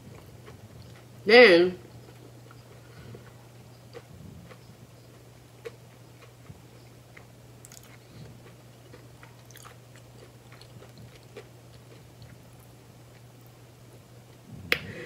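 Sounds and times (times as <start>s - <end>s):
close-up chewing: 0.0s - 1.2s, 1.8s - 14.6s.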